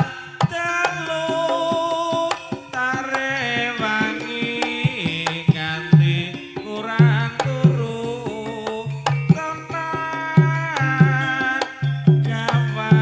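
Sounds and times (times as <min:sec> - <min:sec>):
hand drums in a busy rhythm: 0:00.0 - 0:13.0
low pitched drum tones: 0:00.0 - 0:13.0
sliding wavering melody: 0:00.0 - 0:13.0.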